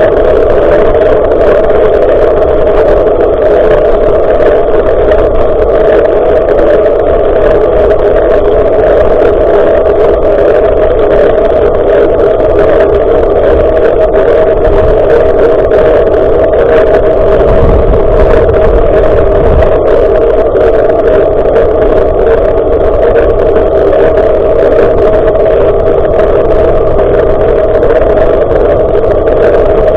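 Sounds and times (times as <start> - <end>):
bicycle riding vibration: 0.0 - 29.9
wind rushing into microphone: 0.0 - 29.9.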